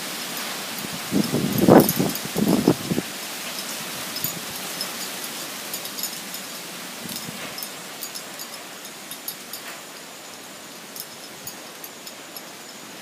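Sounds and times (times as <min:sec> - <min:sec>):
wind rustling leaves: 0:00.0 - 0:13.0.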